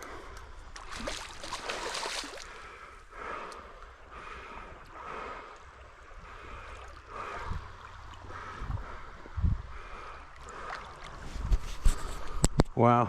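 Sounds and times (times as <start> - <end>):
creek water running: 0.0 - 12.4.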